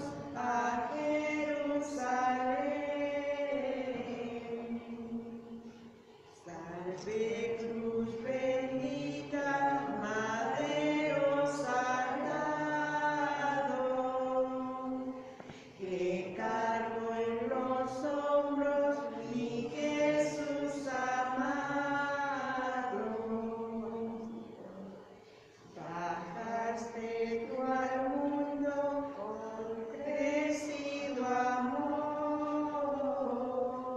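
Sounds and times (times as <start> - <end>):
chanted hymn singing: 0.0 - 33.9.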